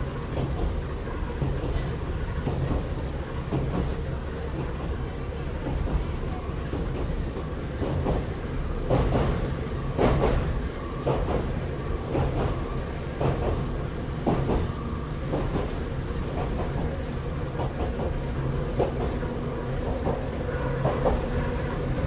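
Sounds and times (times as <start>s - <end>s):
railcar rumbling: 0.0s - 22.0s.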